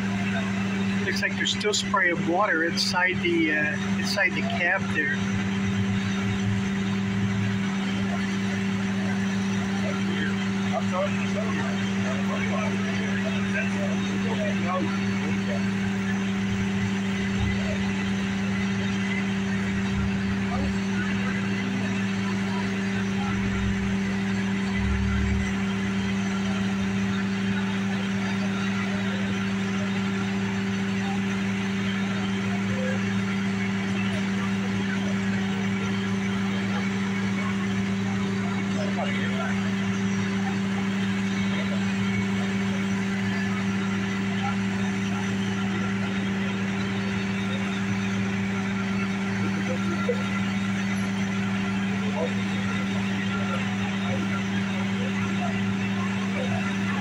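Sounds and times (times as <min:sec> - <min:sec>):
fire engine humming: 0:00.0 - 0:57.0
street noise: 0:00.0 - 0:57.0.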